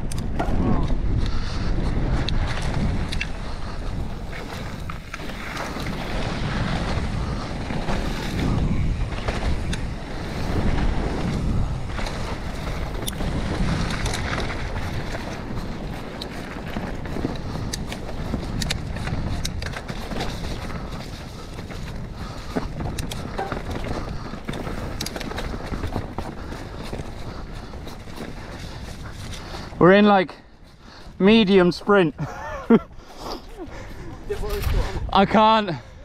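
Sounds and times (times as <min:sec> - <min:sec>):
bike clicking and rattling: 0:00.0 - 0:36.0
wind buffeting microphone: 0:00.0 - 0:36.0
tyres rolling over dirt and rock: 0:00.3 - 0:30.2.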